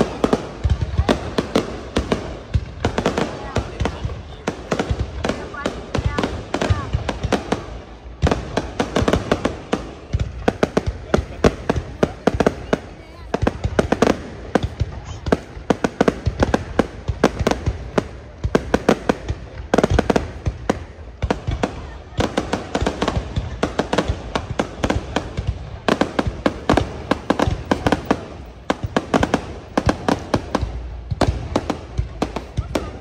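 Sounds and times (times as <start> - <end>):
fireworks cracking and banging: 0.0 - 33.0.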